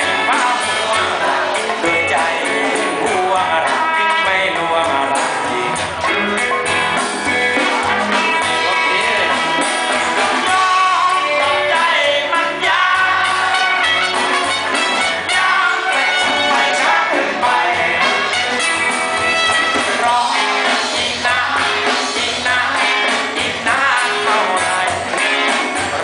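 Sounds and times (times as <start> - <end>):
live rock band playing: 0.0 - 26.0
person singing lead vocals: 0.0 - 26.0.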